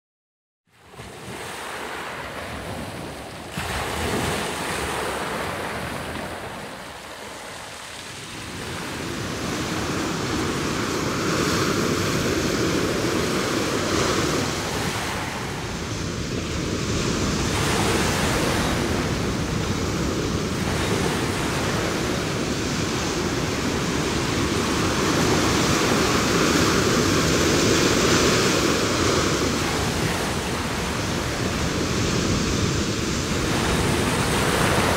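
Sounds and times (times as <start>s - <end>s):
ocean waves breaking on shore: 0.7s - 34.9s.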